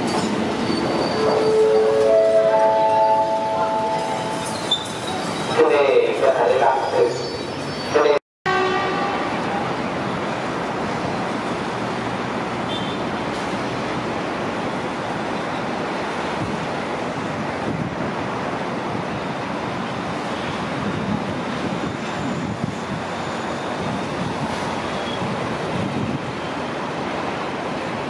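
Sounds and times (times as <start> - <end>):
train wheel and track noise: 0.0 - 28.0.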